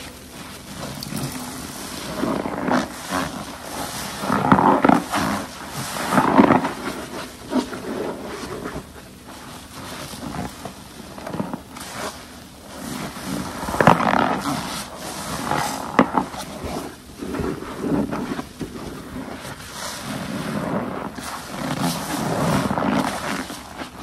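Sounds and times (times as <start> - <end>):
wet foamy sponge squeezing: 0.0 - 24.0.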